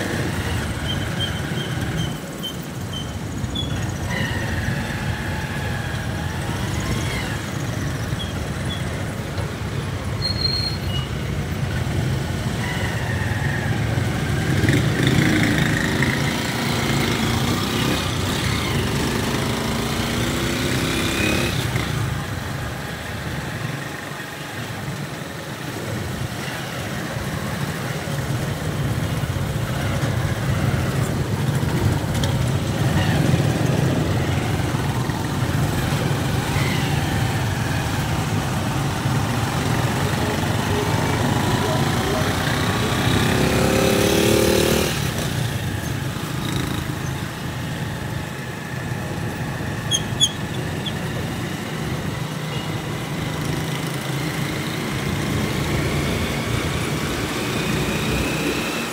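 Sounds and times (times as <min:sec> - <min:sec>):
motorcycle engines in traffic: 0:00.0 - 0:58.9.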